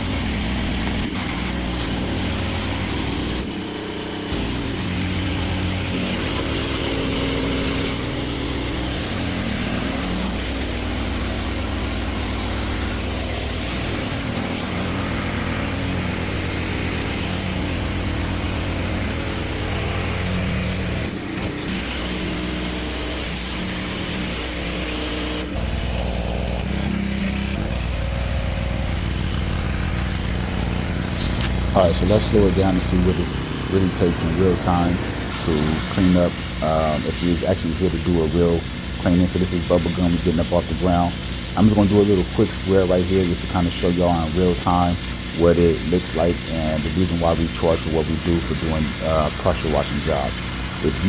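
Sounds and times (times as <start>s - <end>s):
pressure washer engine running: 0.0s - 51.0s
water jet hissing on concrete: 0.0s - 51.0s.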